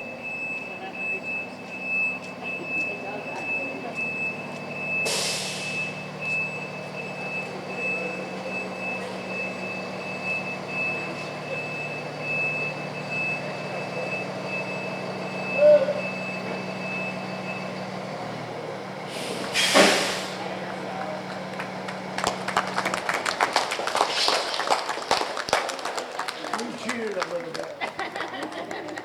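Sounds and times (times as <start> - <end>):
fire engine idling: 0.0 - 29.0.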